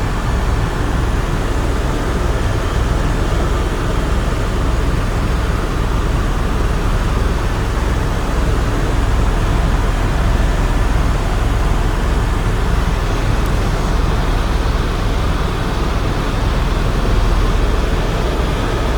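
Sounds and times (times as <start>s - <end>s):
helicopter rotor and turbine drone: 0.0s - 18.9s.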